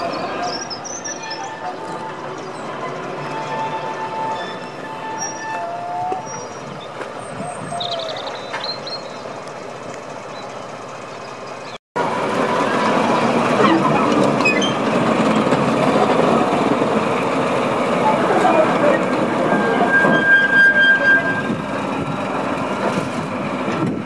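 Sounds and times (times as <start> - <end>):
diesel locomotive engine: 0.0 - 24.0
train wheels on rails: 0.0 - 24.0.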